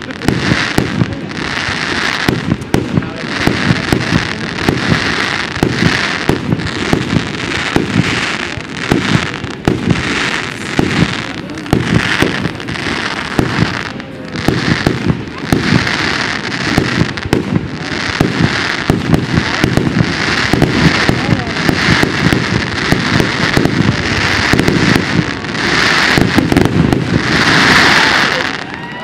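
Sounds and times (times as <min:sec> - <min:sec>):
fireworks bangs: 0:00.0 - 0:29.0
fireworks hiss: 0:00.0 - 0:29.0.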